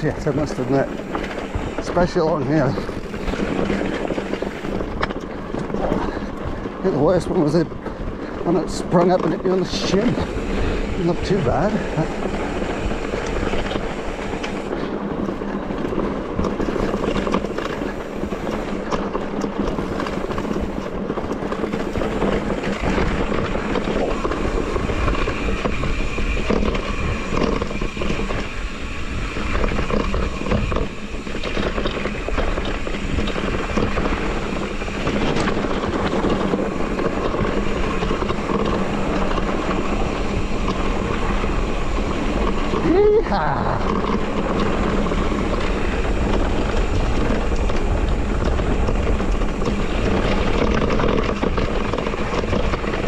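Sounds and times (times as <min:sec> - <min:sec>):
bike rattling over rocky track: 0:00.0 - 0:53.0.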